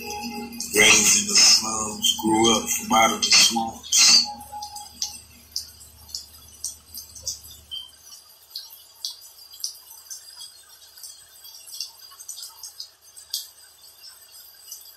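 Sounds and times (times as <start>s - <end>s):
raindrops dripping: 0.0s - 14.9s.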